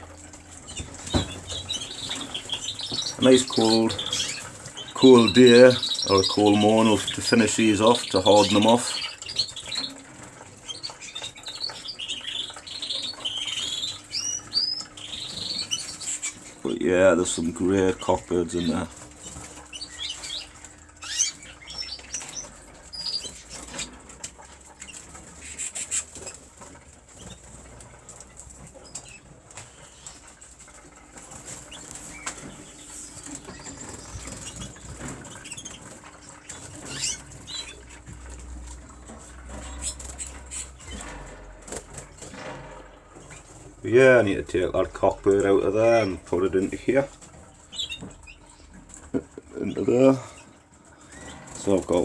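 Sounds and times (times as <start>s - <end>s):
canaries chirping: 0.0s - 52.0s
canaries flapping wings: 0.0s - 52.0s.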